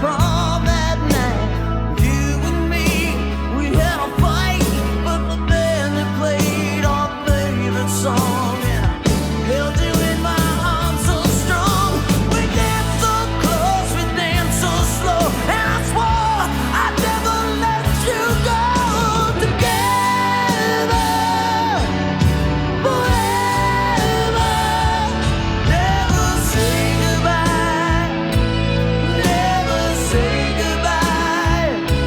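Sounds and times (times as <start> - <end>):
male lead vocal: 0.0 - 32.0
rock power ballad: 0.0 - 32.0.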